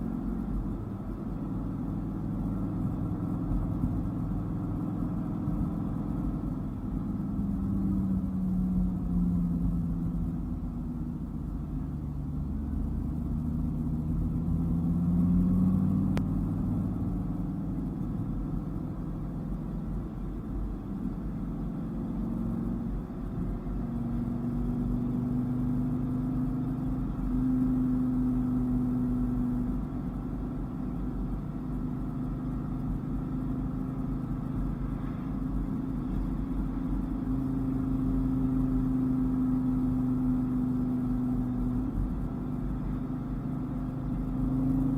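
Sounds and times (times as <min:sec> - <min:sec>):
car engine revving: 0:00.0 - 0:31.7, 0:32.9 - 0:44.9
low road rumble: 0:00.0 - 0:44.9.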